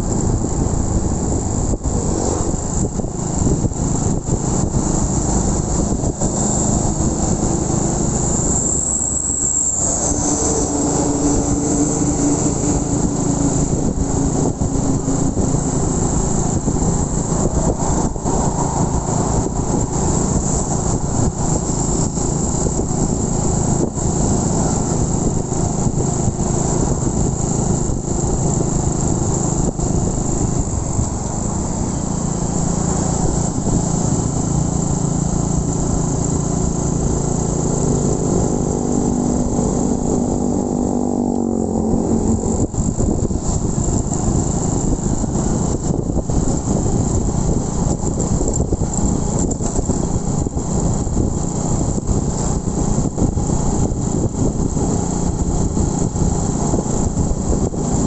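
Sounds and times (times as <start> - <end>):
motorcycle engine running: 0.0 - 58.0
wind rumble on microphone: 0.0 - 58.0.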